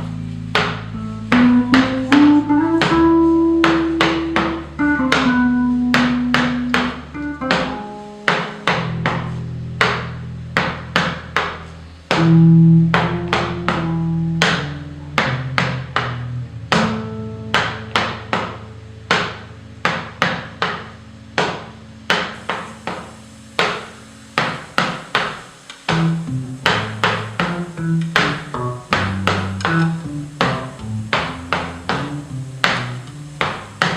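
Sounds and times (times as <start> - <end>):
held bass notes: 0.0 - 33.9
heel strikes on wooden platform: 0.5 - 33.9.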